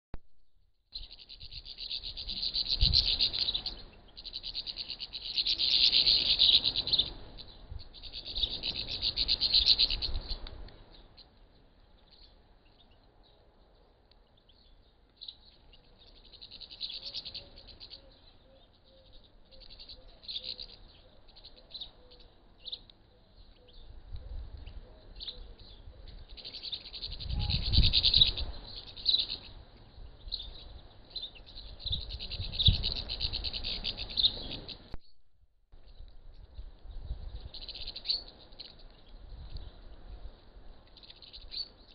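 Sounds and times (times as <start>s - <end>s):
small birds chirping and twittering: 0.8s - 41.9s.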